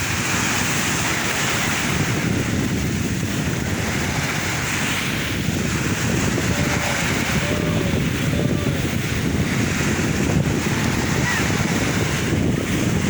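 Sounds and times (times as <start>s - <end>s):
low surf rumble: 0.0s - 13.0s
sea waves breaking: 0.0s - 13.0s.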